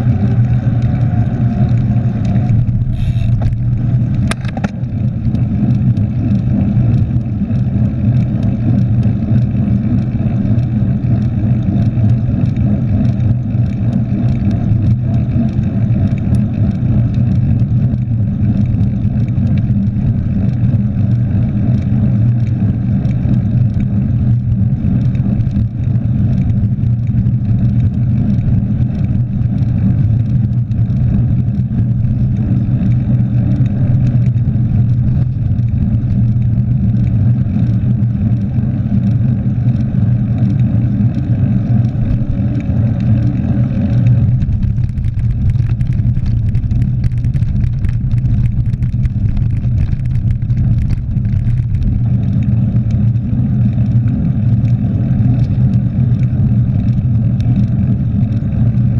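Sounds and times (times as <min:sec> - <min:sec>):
bike tyres rolling on tarmac: 0:00.0 - 0:58.9.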